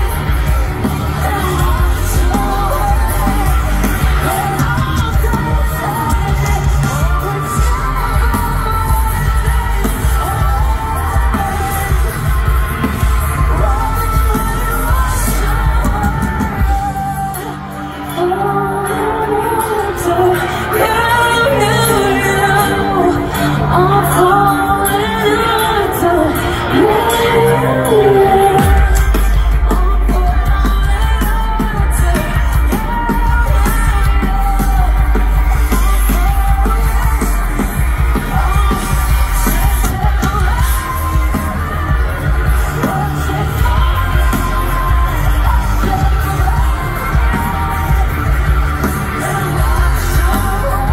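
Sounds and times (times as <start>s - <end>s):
steady drum beat: 0.0s - 17.5s, 26.7s - 50.9s
heavy bass: 0.0s - 50.9s
live rock band playing: 0.0s - 50.9s
woman singing: 0.0s - 50.9s.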